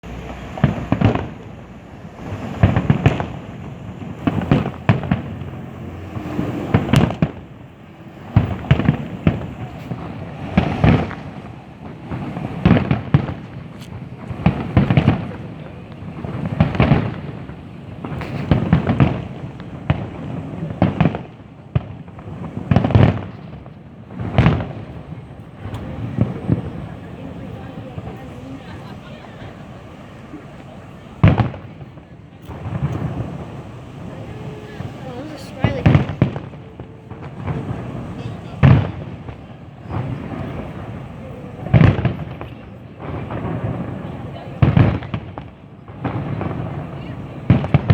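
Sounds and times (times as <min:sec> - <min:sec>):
fireworks booming: 0:00.0 - 0:47.9.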